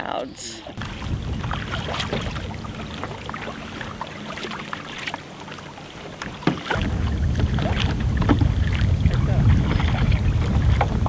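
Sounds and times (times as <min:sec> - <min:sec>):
paddle strokes in water: 0:00.8 - 0:11.0
water splashes and drips: 0:00.8 - 0:11.0
wind buffeting microphone: 0:00.8 - 0:11.0.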